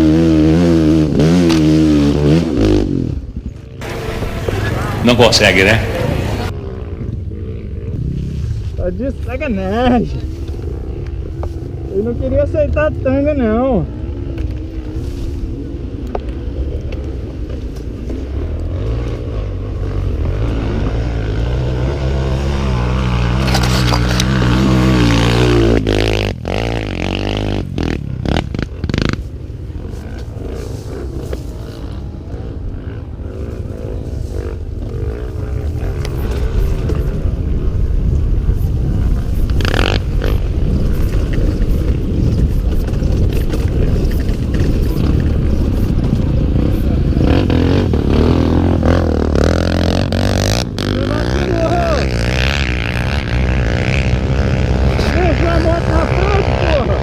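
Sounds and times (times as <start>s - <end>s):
trail bike engine revving: 0.0s - 57.0s.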